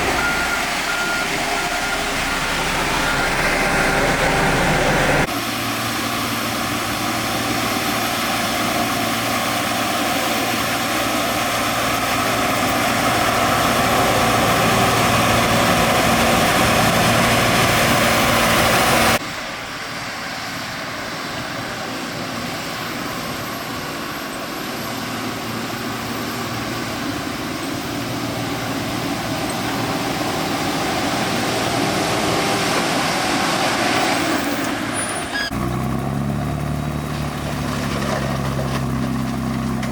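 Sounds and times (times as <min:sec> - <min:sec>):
construction vehicle motors running: 0:00.0 - 0:19.2, 0:21.5 - 0:39.9.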